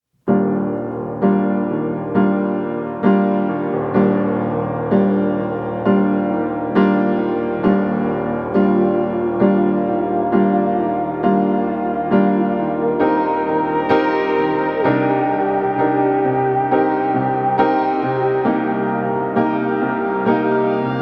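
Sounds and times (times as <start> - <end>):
slow piano chords: 0.2 - 21.0.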